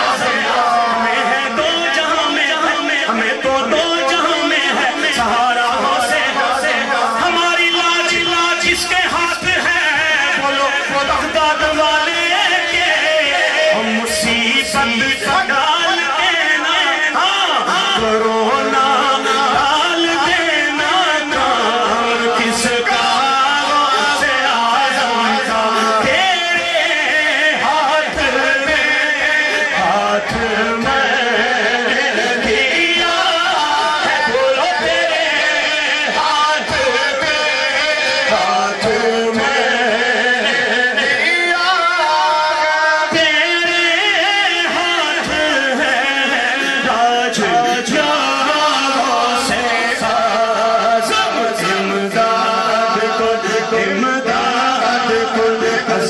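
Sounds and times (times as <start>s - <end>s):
man singing into a microphone: 0.0s - 56.0s
men chanting over loudspeakers: 0.0s - 56.0s.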